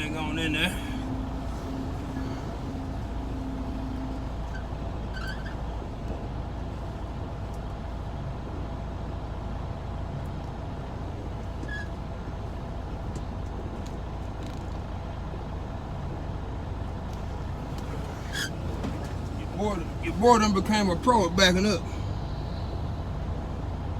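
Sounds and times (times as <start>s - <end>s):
diesel truck engine running: 0.0s - 23.9s.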